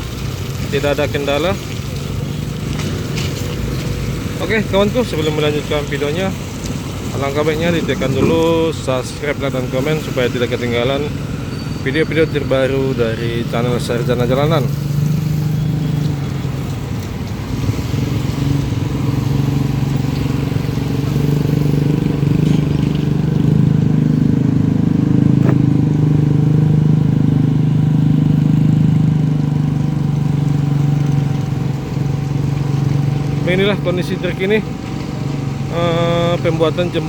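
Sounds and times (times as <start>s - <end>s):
large engine running steadily: 0.0s - 37.0s.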